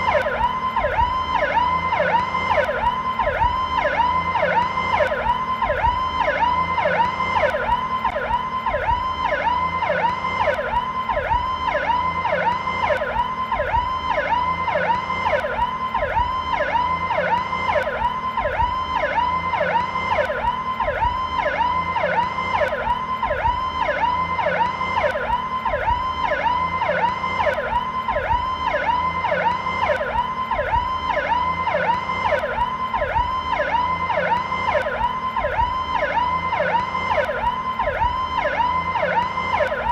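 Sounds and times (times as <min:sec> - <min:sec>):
police siren sweeping: 0:00.0 - 0:39.9.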